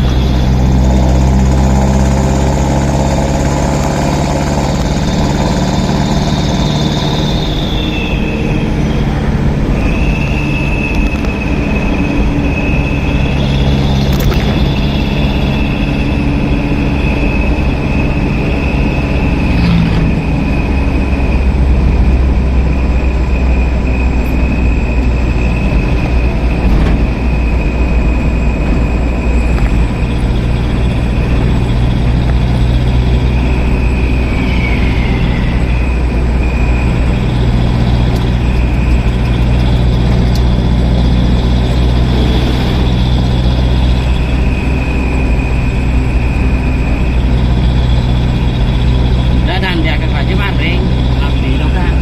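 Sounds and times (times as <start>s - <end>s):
heavy truck engines idling: 0.0s - 52.0s.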